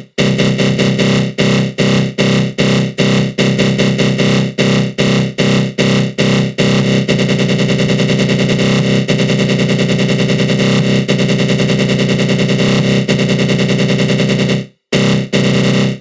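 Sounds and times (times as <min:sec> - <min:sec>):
harsh low buzzing synth tone: 0:00.0 - 0:16.0.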